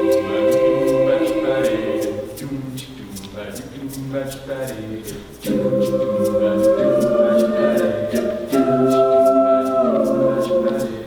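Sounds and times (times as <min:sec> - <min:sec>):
choir singing a cappella: 0:00.0 - 0:03.2, 0:04.0 - 0:11.0.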